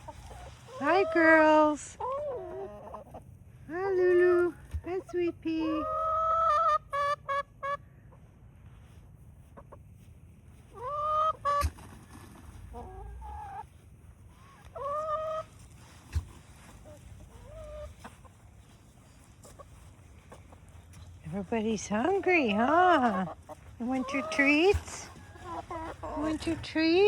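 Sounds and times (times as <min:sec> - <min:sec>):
chickens clucking and calling: 0:00.0 - 0:03.7, 0:04.3 - 0:27.0.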